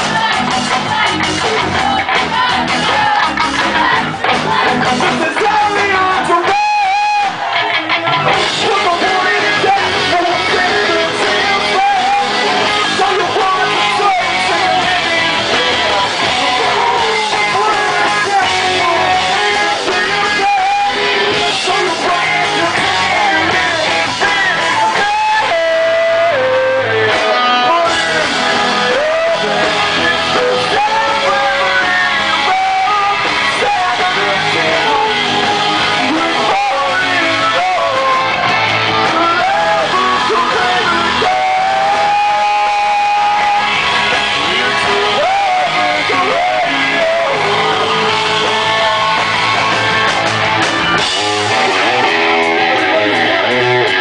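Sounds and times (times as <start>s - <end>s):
person singing: 0.0s - 50.1s, 51.0s - 54.0s
guitar: 0.0s - 54.0s
rock band playing live: 0.0s - 54.0s.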